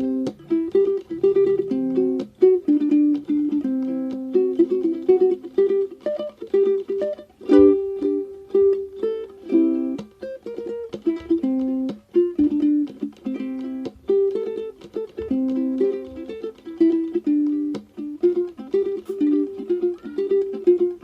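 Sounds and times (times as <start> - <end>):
plucked string melody: 0.0 - 21.0.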